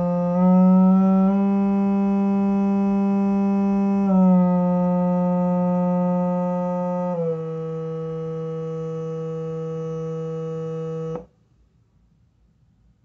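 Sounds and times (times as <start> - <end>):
low buzzy tone from small speaker: 0.0 - 11.4.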